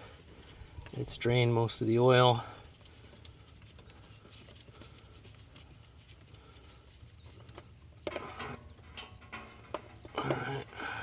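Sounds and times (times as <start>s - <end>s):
oil filter scraping and ticking: 0.0s - 11.0s.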